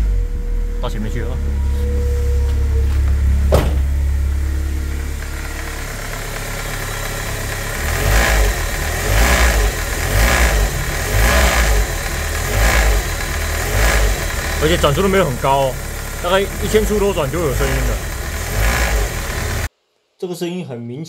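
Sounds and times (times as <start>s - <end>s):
car engine running at low revs: 0.0s - 19.7s.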